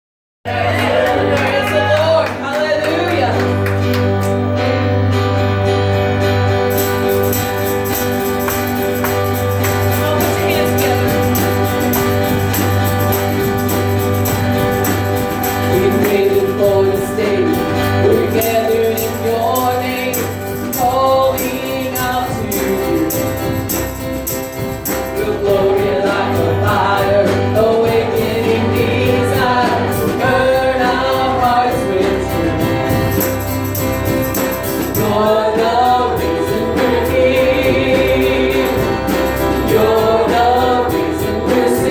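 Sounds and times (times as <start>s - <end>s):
people singing: 0.5s - 3.4s, 6.8s - 41.9s
worship band playing: 0.5s - 41.9s.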